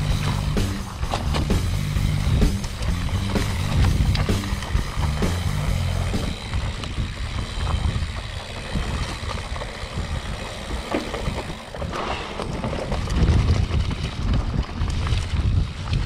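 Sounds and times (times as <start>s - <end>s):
bike frame rattling and knocking: 0.0s - 16.0s
bike tyres rumbling on dirt: 0.0s - 16.0s
wind on microphone: 0.0s - 16.0s.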